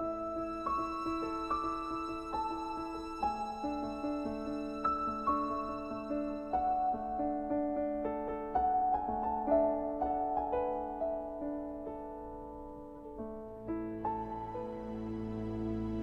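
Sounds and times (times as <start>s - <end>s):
soft slow piano music: 0.0s - 16.0s.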